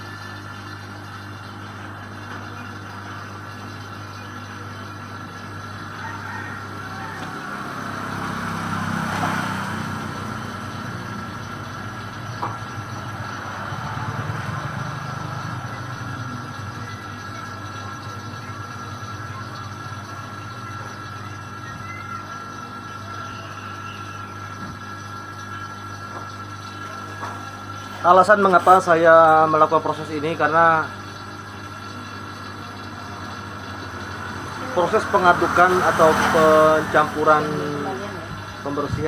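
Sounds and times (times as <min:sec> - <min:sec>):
refrigeration compressor humming: 0:00.0 - 0:39.0.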